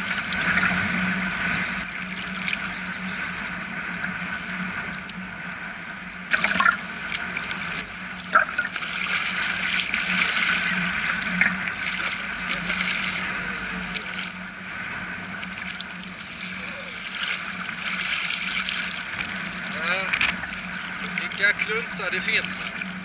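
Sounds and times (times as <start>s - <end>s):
sea water washing around legs: 0.0s - 5.3s, 6.2s - 23.0s.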